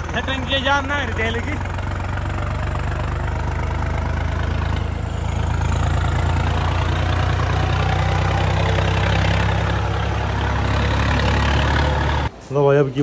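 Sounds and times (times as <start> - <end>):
tractor diesel engine idling: 0.0 - 12.4.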